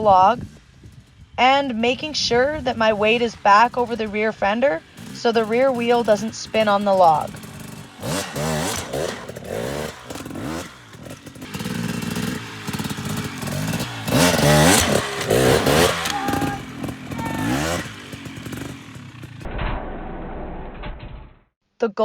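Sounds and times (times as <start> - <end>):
dirt bike engine revving: 0.0 - 19.5.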